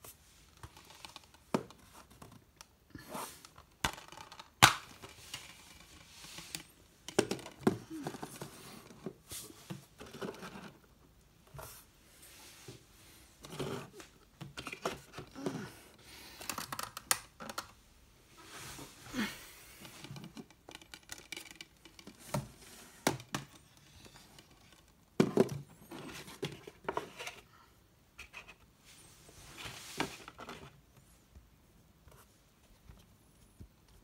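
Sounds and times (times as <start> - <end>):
plastic and cardboard rustling: 0.0 - 27.5, 28.2 - 31.0.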